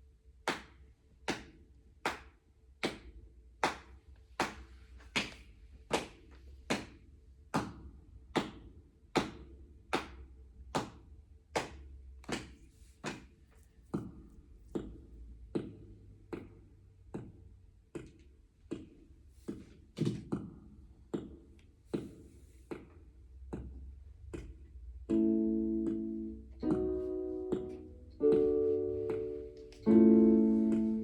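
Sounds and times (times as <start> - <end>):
steady sharp taps: 0.5 - 30.0.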